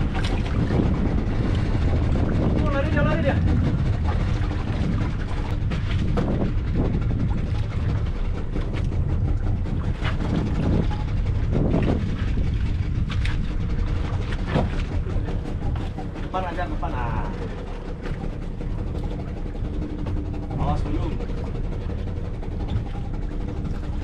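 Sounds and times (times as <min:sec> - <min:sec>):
boat engine rumbling: 0:00.0 - 0:24.0
water against hull: 0:00.0 - 0:24.0
wind on microphone: 0:00.0 - 0:24.0.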